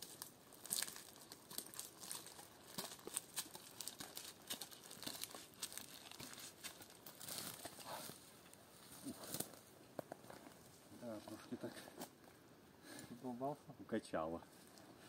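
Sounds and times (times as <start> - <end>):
boots and gear scraping on bark: 0.0 - 12.1.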